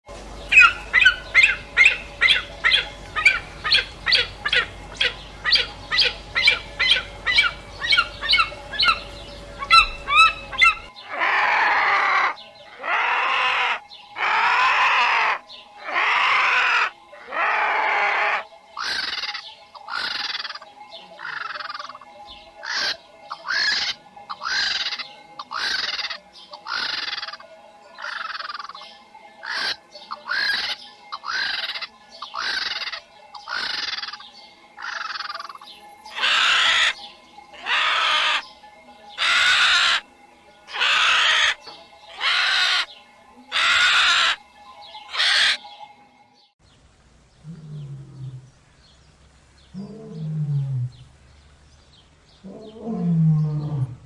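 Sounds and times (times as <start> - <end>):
harsh rasping bird calls: 0.4 - 46.6.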